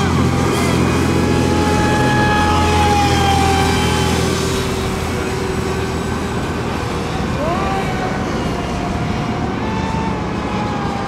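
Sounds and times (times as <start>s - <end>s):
racing boat motors whining: 0.0s - 11.0s.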